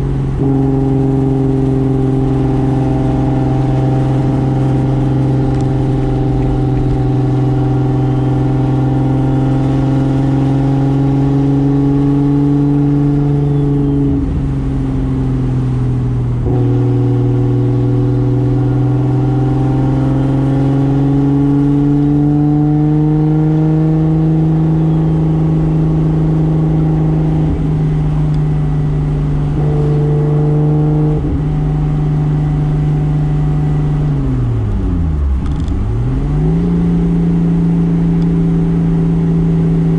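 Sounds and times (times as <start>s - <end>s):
car engine running under load: 0.0s - 39.9s.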